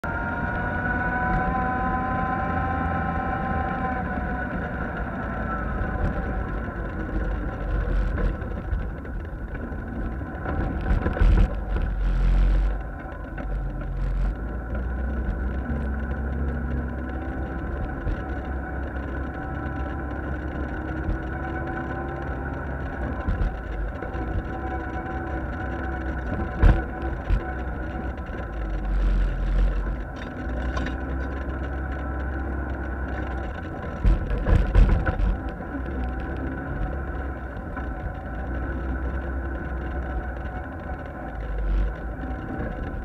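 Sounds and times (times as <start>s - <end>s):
low rumble: 0.0s - 43.0s
off-road vehicle engine: 0.0s - 43.0s.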